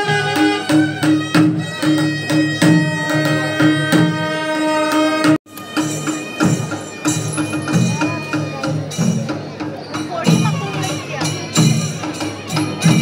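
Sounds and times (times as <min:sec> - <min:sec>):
steady drum beat: 0:00.0 - 0:13.0.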